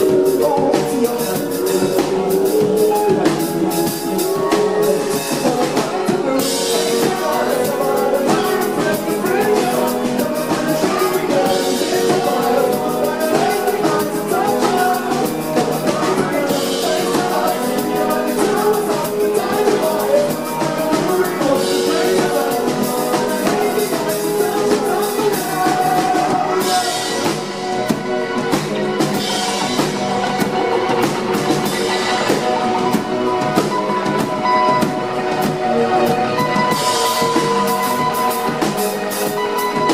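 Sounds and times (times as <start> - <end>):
drum kit steady beat: 0.0 - 39.9
electric guitar: 0.0 - 39.9
keyboard: 0.0 - 39.9
person singing: 0.0 - 39.9.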